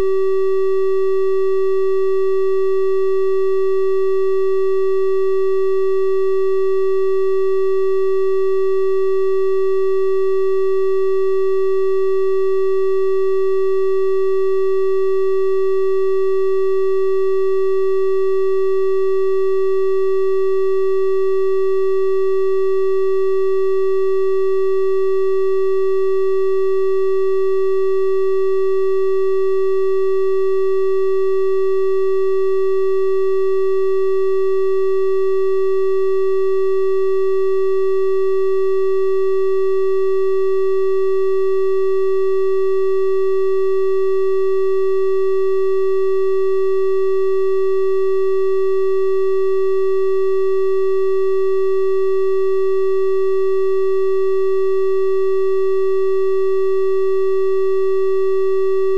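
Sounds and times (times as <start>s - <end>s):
triangle-wave test tone: 0.0s - 58.9s.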